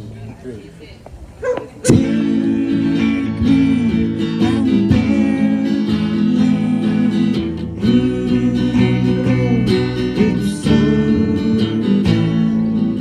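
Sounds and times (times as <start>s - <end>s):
band playing live: 1.9s - 13.0s
strummed guitar chords: 1.9s - 13.0s.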